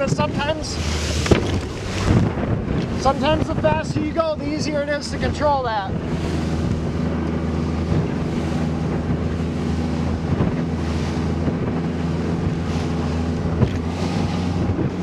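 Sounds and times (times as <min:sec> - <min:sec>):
hull thumping on wave: 0:00.0 - 0:15.0
outboard engine running: 0:00.0 - 0:15.0
water rushing: 0:00.0 - 0:15.0
wind buffeting microphone: 0:00.0 - 0:15.0.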